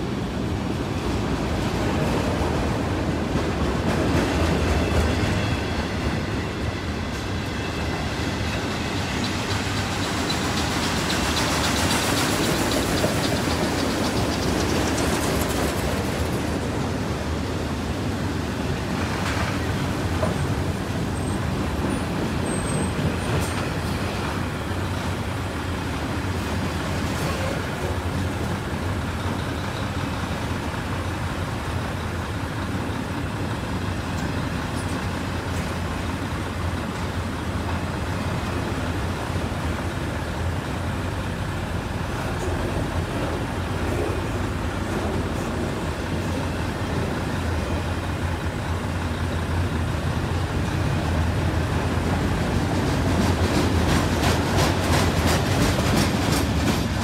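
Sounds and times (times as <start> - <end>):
steel wheels rumbling on rail: 0.0 - 57.0
train cars clanking: 0.0 - 57.0.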